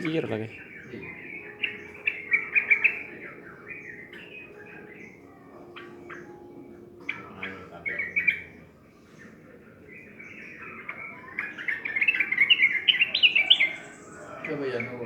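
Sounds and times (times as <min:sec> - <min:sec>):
bird chirping and chattering: 0:00.0 - 0:15.0.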